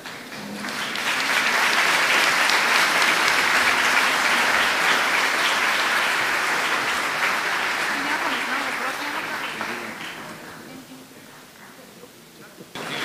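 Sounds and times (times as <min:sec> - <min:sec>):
audience applauding: 0:00.0 - 0:10.8, 0:12.8 - 0:13.0.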